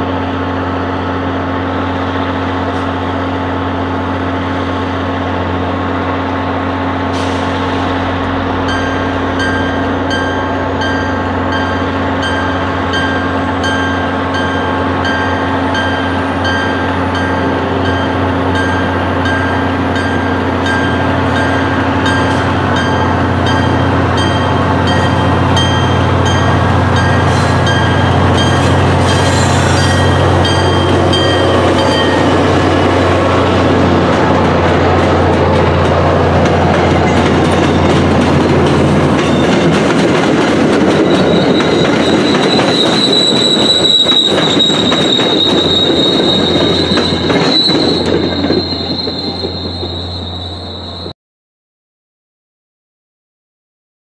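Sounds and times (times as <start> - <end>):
diesel locomotive engine running: 0.0 - 51.1
passenger coaches rolling by: 0.0 - 51.1.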